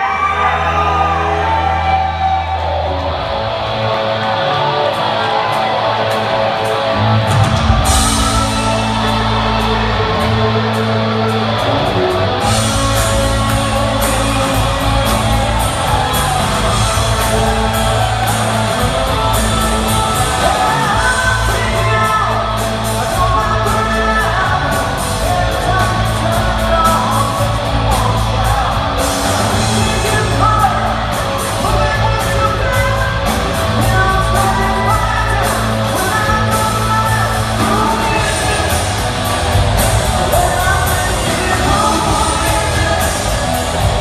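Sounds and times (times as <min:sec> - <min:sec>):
audience shouting: 0:00.0 - 0:44.0
live rock band playing: 0:00.0 - 0:44.0.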